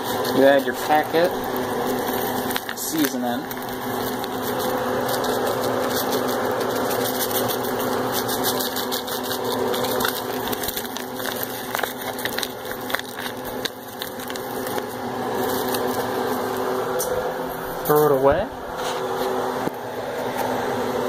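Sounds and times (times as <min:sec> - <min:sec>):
foil packet crinkling: 0:00.0 - 0:17.0.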